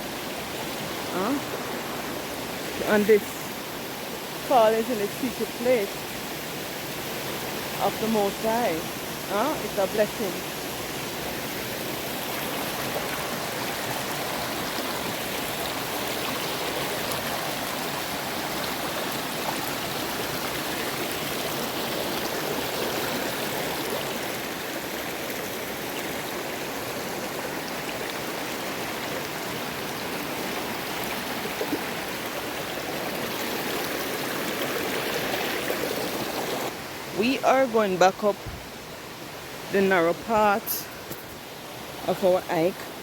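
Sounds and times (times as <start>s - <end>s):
waterfall rushing: 0.0s - 37.6s.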